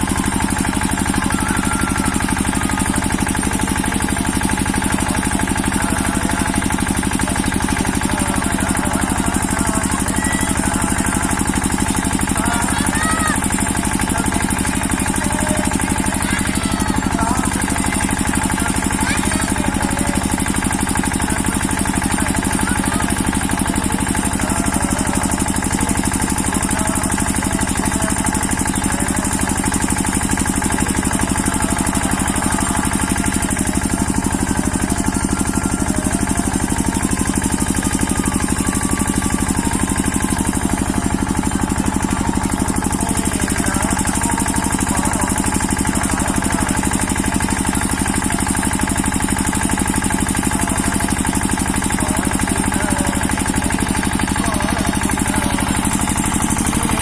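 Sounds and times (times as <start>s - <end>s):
engine running with rapid pulse: 0.0s - 57.0s.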